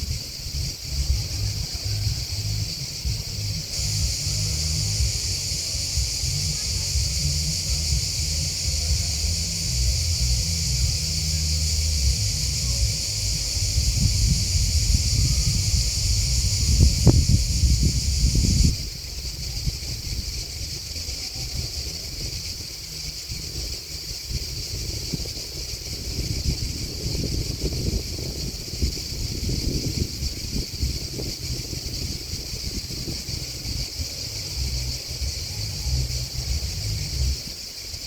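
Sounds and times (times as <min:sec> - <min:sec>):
insects chirping: 0:00.0 - 0:38.0
wind rumble on microphone: 0:00.0 - 0:38.0.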